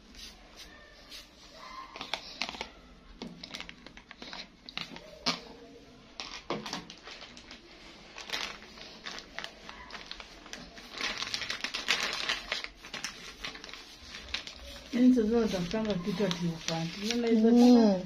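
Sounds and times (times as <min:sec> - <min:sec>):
plastic bag crinkling: 0:02.0 - 0:05.4, 0:06.1 - 0:18.0.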